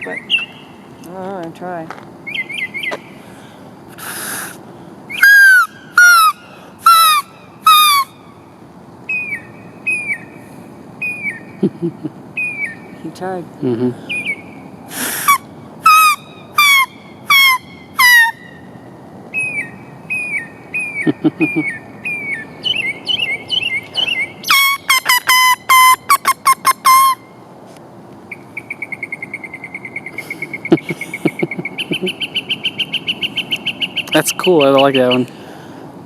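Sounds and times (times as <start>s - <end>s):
mockingbird singing: 0.0s - 1.1s, 2.2s - 3.2s, 5.1s - 8.4s, 9.1s - 10.4s, 11.0s - 27.4s, 28.3s - 35.3s.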